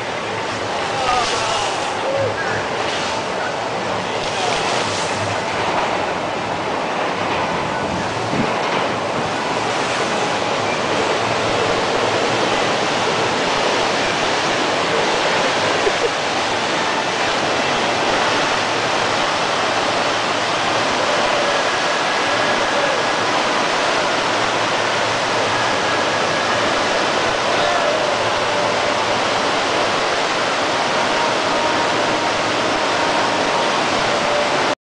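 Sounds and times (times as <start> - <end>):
whitewater rushing: 0.0 - 34.8.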